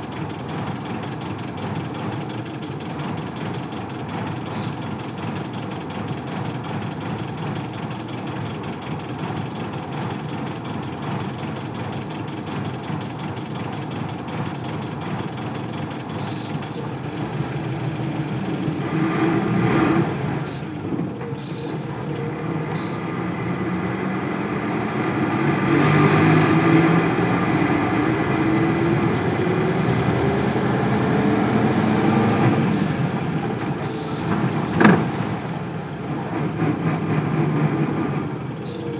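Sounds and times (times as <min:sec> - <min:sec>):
bus diesel engine idling and revving: 0:00.0 - 0:38.9.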